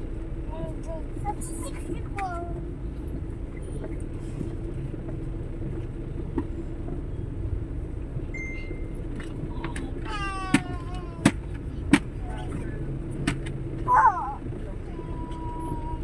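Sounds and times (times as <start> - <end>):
engine and road noise in cabin: 0.0 - 16.0.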